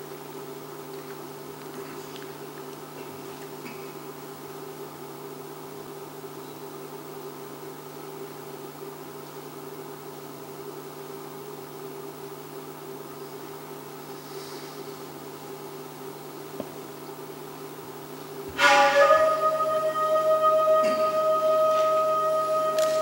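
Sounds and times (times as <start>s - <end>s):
low hum with hiss: 0.0s - 23.0s.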